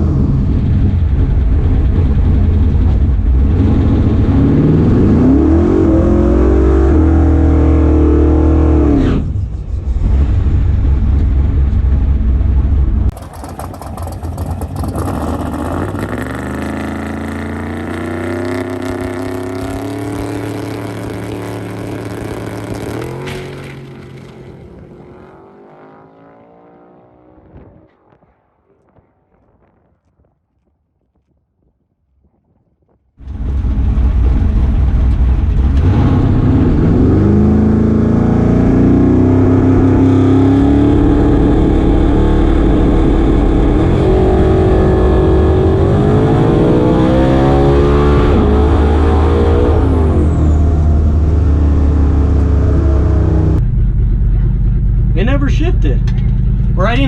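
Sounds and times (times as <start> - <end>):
race car engine at full throttle: 0.0 - 29.0, 33.2 - 57.0.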